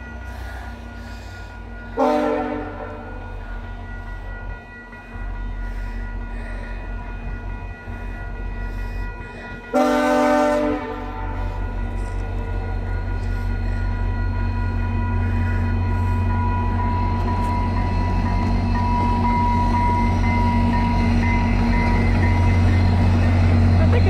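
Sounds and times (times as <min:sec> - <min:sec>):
diesel locomotive engine rumble: 0:00.0 - 0:24.0.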